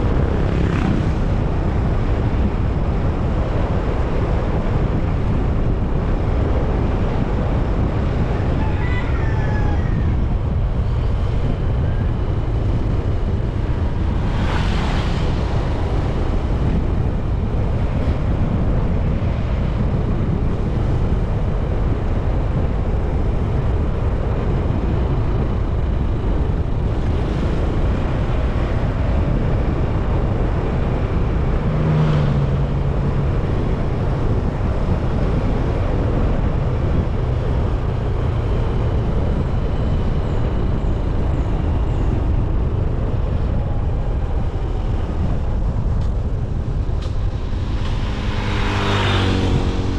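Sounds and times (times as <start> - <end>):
motorcycle engine and road rumble: 0.0 - 49.9
wind buffeting microphone: 0.0 - 49.9.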